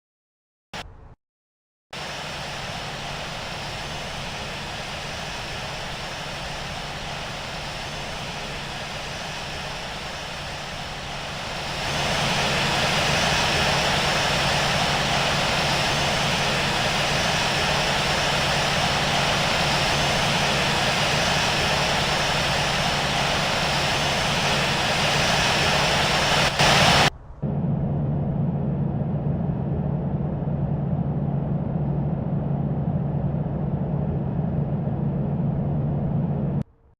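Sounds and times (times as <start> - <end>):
jet engines rushing: 2.0 - 36.7.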